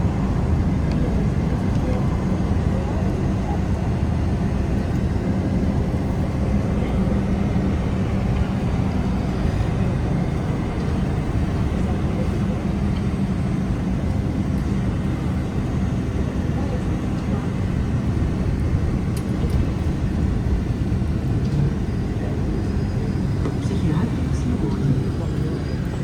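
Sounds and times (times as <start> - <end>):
vehicle interior rumble: 0.0 - 26.0.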